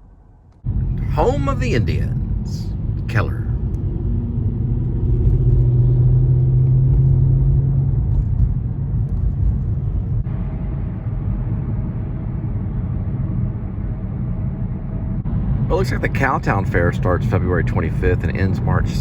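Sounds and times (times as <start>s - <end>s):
car cabin road rumble: 0.0s - 19.0s
engine hum: 0.0s - 19.0s.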